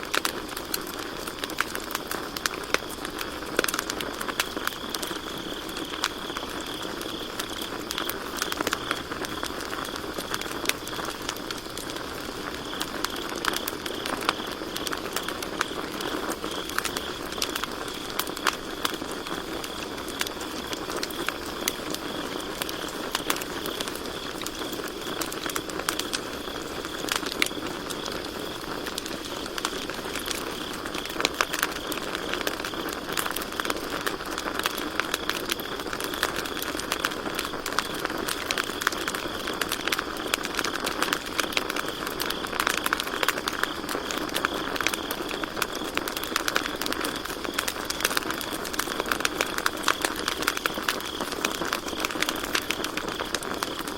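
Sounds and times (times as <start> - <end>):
campfire crackling: 0.0 - 53.9
crickets chirring: 0.0 - 53.9.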